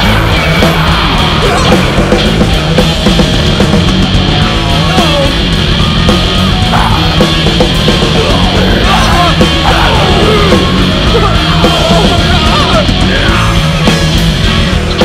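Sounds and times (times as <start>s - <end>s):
loud heavy rock music: 0.0s - 15.0s.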